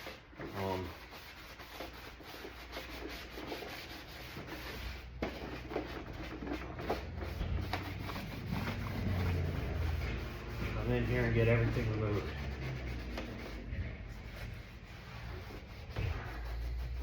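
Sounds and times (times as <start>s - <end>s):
rag scrubbing plastic panel: 0.0s - 17.0s.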